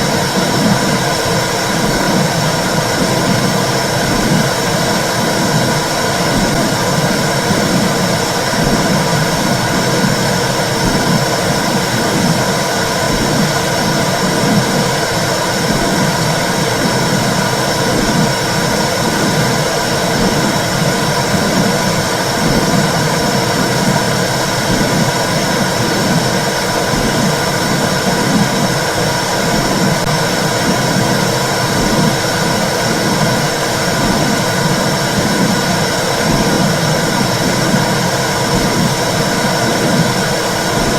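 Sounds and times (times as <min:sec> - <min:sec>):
womb whooshing with low pulse: 0:00.0 - 0:40.9.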